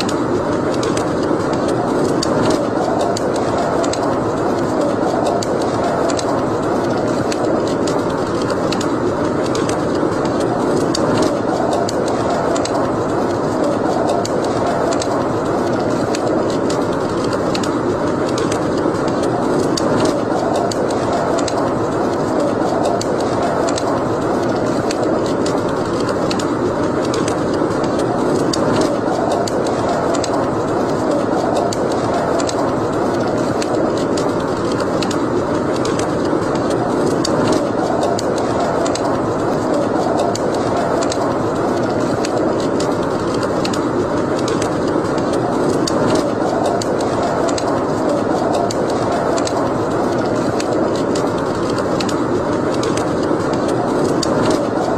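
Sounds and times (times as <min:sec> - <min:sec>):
fire flame rushing: 0:00.0 - 0:54.9
wood fire crackling and popping: 0:00.0 - 0:54.9.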